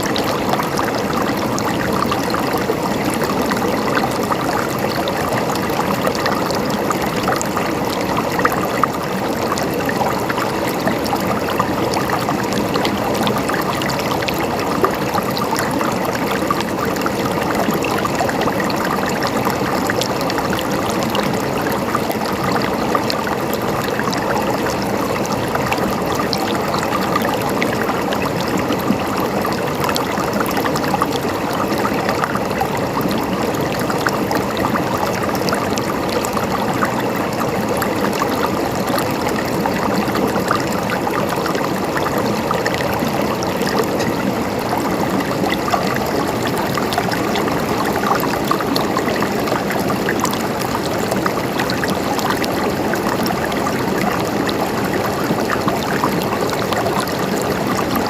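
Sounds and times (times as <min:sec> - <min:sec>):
river water flowing and splashing: 0:00.0 - 0:58.0.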